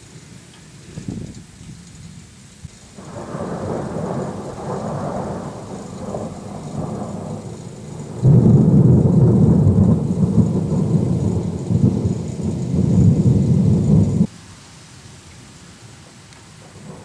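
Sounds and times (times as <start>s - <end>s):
faint steady hiss: 0.0s - 17.0s
thunder rumbling: 0.8s - 14.3s, 16.5s - 17.0s.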